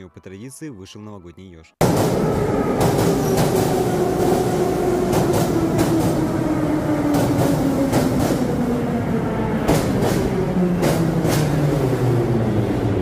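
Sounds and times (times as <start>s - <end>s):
train rumble: 1.8s - 13.0s.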